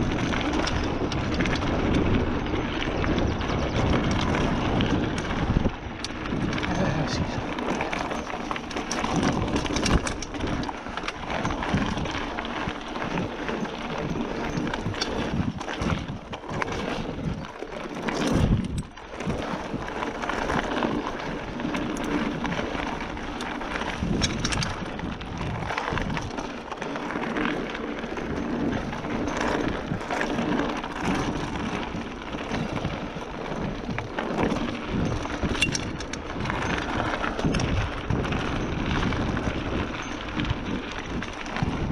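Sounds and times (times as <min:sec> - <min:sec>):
bike rattling and clattering: 0:00.0 - 0:41.9
bike tyres rolling over stones: 0:00.0 - 0:41.9.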